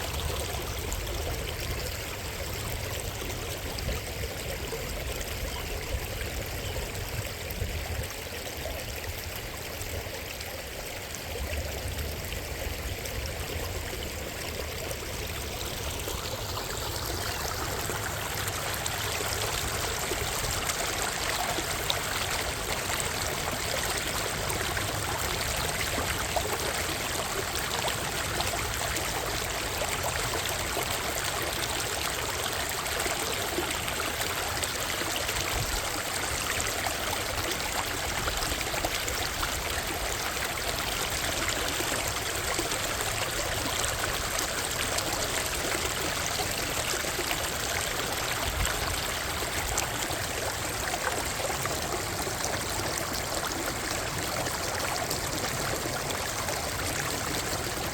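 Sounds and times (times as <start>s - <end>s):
creek water rushing and splashing: 0.0s - 57.9s.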